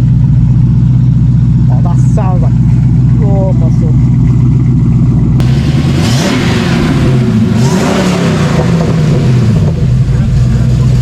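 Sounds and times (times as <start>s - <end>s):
car engine accelerating: 0.0s - 11.0s
rushing intake and exhaust noise: 0.0s - 11.0s.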